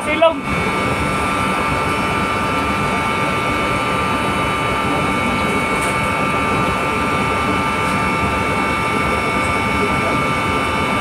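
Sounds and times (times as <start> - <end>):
electric pump humming: 0.0 - 11.0
steady whining tones: 0.0 - 11.0.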